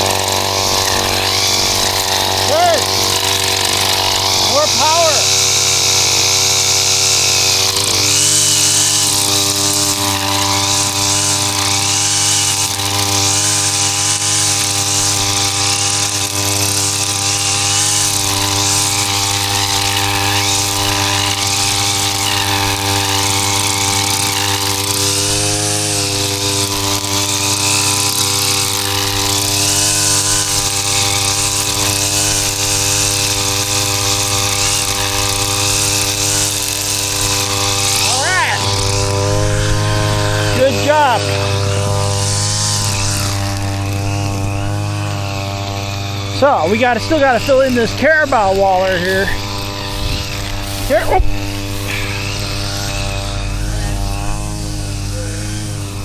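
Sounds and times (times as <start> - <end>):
brush cutter running: 0.0 - 56.0.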